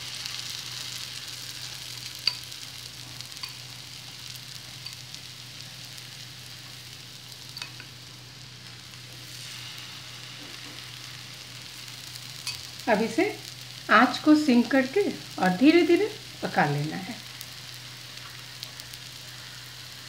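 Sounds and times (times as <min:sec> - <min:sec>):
fritters sizzling in hot oil: 0:00.0 - 0:20.0.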